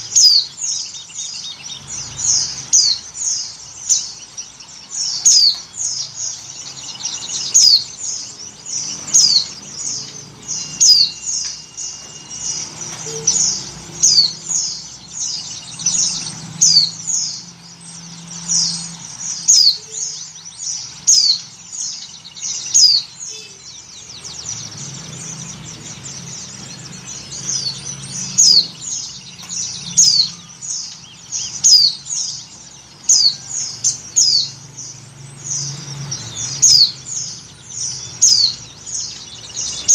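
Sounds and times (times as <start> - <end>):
birds chirping high and falling: 0.0 - 39.9.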